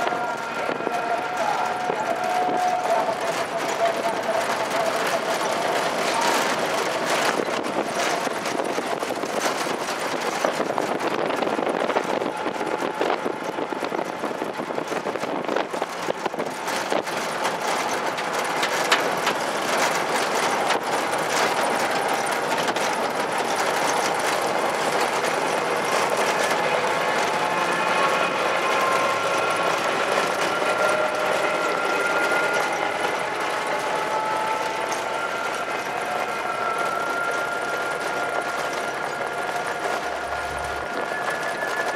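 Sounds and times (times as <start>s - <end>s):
trotting hoofbeats on dirt: 0.0s - 41.9s.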